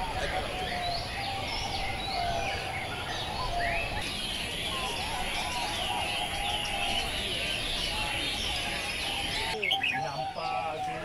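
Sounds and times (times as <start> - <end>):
birds chirping and whistling: 0.0 - 11.0
doves cooing: 0.0 - 11.0.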